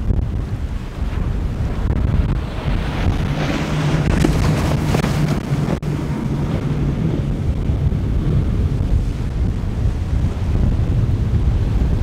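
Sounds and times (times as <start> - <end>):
outboard engines droning: 0.0 - 12.0
rushing water: 0.0 - 12.0
wind on microphone: 0.0 - 12.0.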